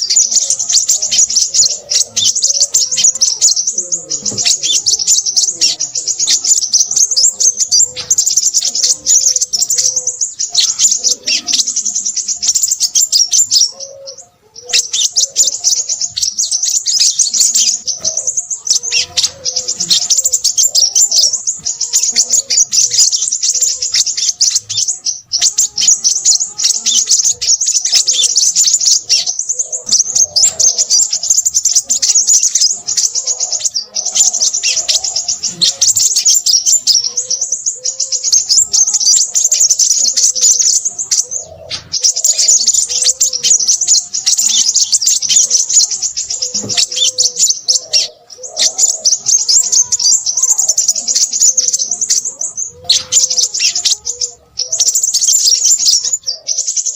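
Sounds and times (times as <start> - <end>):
bird singing high chirps and trills: 0.0 - 56.9.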